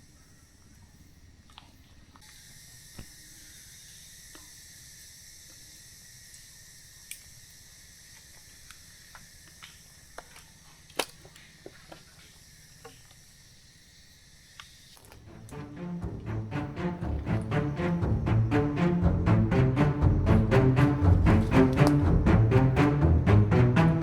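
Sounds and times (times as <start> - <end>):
high-pitched insect chorus: 0.0 - 22.5.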